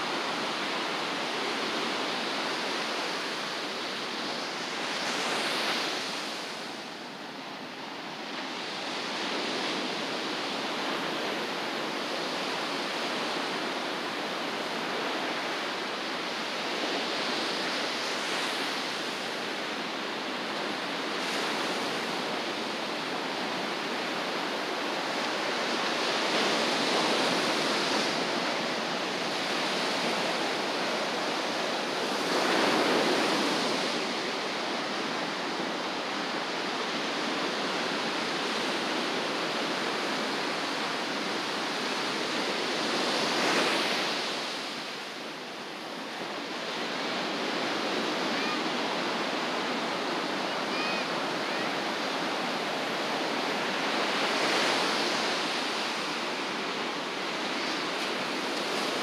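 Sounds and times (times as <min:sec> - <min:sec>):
ocean surf washing onto beach: 0:00.0 - 0:59.0
waves breaking: 0:00.0 - 0:59.0.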